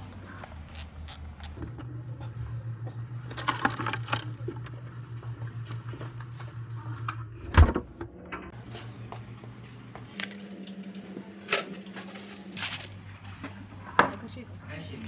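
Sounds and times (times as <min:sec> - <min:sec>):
refrigerator low hum: 0:00.0 - 0:15.0.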